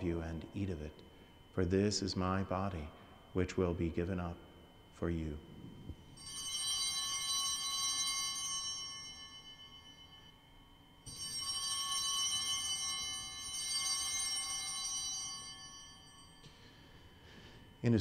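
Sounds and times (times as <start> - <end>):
altar bells ringing: 0.0 - 18.0.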